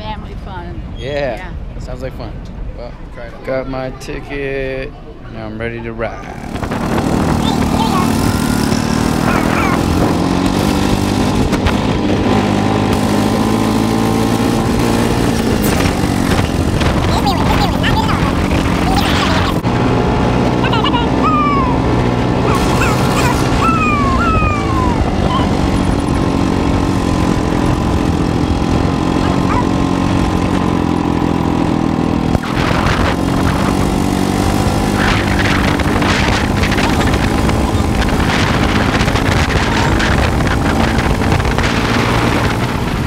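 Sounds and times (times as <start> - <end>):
go-kart engine running: 6.0 - 43.0.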